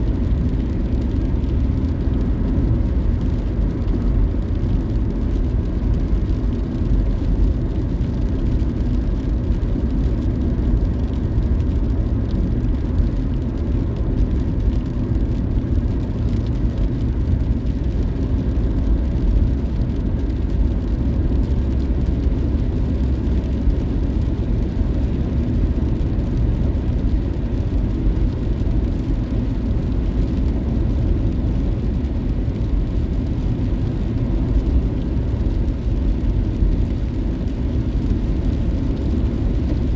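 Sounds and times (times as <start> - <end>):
car driving low rumble: 0.0 - 39.9.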